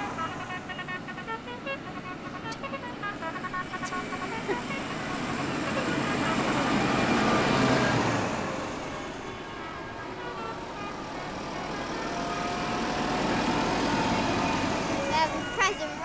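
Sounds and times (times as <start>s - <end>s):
tractors driving past: 0.0s - 16.0s.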